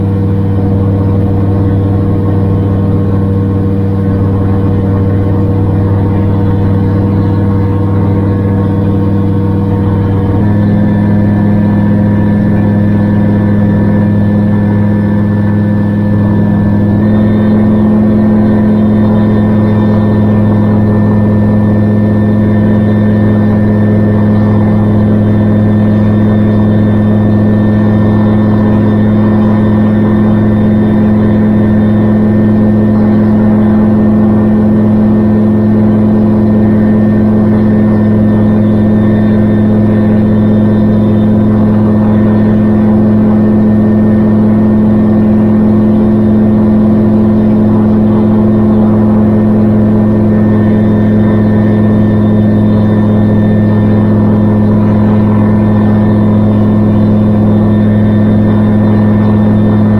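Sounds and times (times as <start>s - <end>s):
gyrocopter engine drone: 0.0s - 59.9s.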